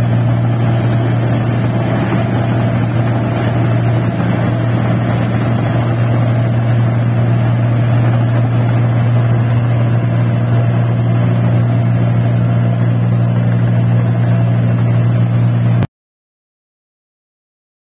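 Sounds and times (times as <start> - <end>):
combine harvester engine droning: 0.0 - 15.9.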